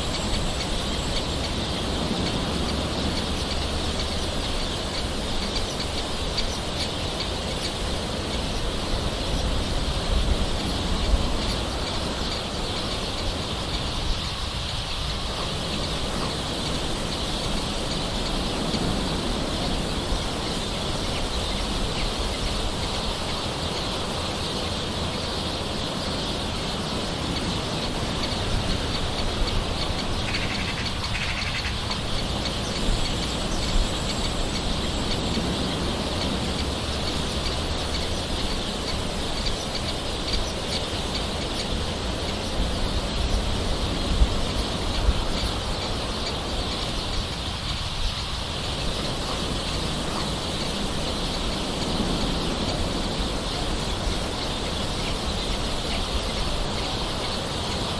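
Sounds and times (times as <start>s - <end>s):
birds calling: 0.0s - 57.9s.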